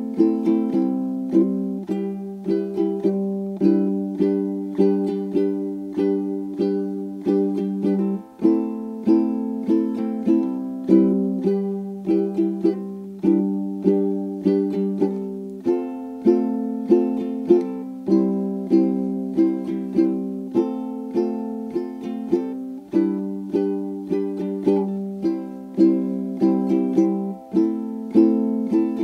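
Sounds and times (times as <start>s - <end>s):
plucked string tune: 0.0s - 29.0s.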